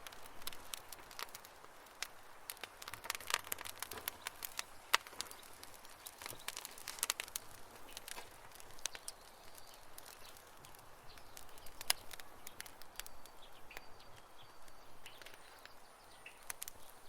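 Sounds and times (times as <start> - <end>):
campfire crackling: 0.0 - 17.0
low hiss of fire: 0.0 - 17.0.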